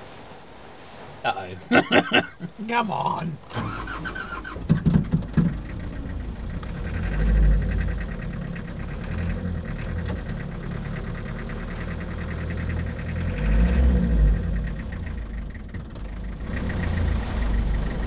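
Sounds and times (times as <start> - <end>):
truck engine revving: 3.4 - 18.0.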